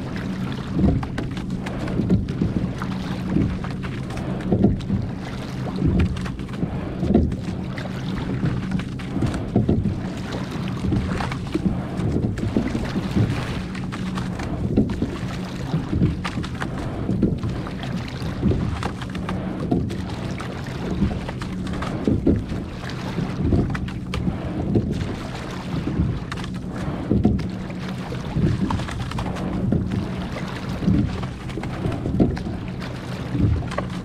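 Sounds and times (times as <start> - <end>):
oar strokes with water washing: 0.0 - 34.0
steady low hum: 0.0 - 34.0.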